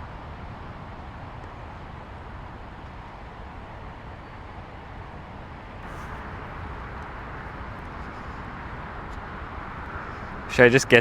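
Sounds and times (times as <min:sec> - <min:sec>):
traffic noise: 0:00.0 - 0:11.0
wind rumbling on microphone: 0:00.0 - 0:11.0.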